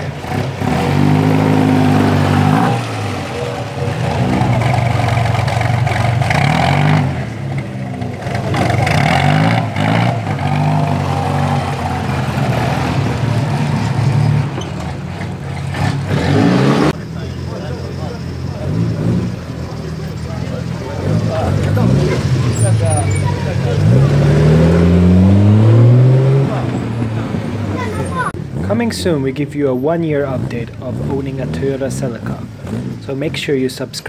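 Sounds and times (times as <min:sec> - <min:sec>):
racing car engine revving: 0:00.0 - 0:17.7, 0:18.5 - 0:29.2.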